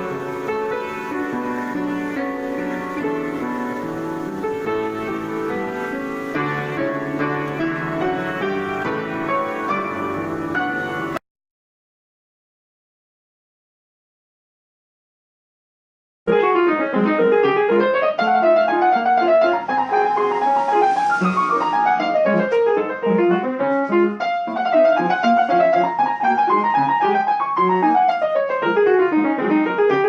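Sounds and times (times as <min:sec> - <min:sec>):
piano playing quick runs: 0:00.0 - 0:11.2, 0:16.3 - 0:30.0.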